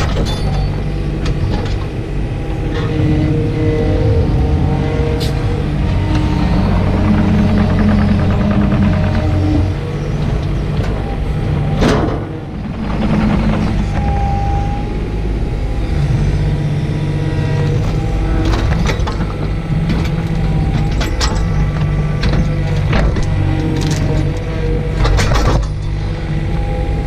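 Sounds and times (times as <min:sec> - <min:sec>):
excavator diesel engine under load: 0:00.0 - 0:27.0.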